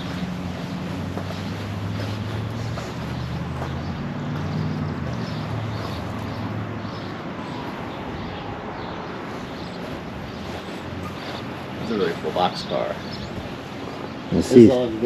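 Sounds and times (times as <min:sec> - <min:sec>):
low engine drone: 0:00.0 - 0:15.0
wind noise on microphone: 0:00.0 - 0:15.0.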